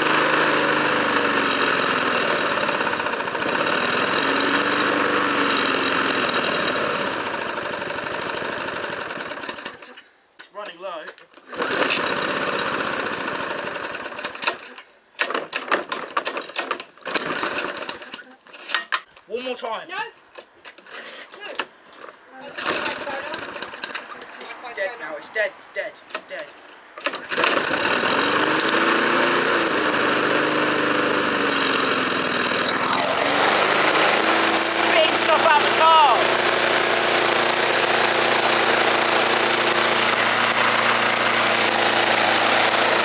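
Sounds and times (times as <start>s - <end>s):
lawnmower engine clattering: 0.0s - 10.0s, 11.1s - 14.6s, 15.2s - 19.1s, 22.6s - 24.3s, 27.0s - 43.0s.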